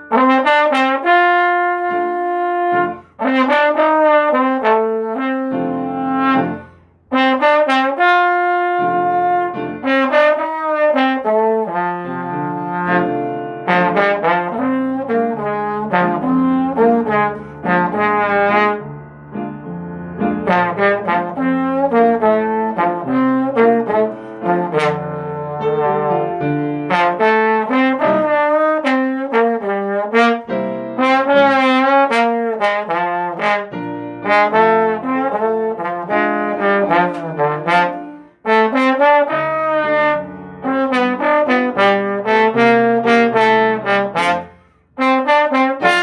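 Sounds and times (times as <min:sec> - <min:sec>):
slide trombone melody: 0:00.0 - 0:46.0.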